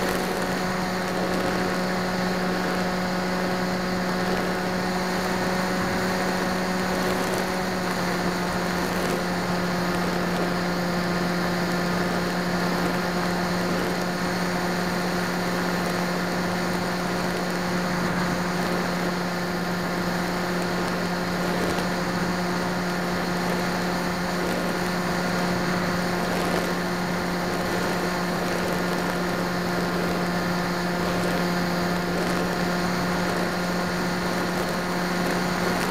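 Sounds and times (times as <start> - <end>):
motor and propeller humming: 0.0 - 35.9.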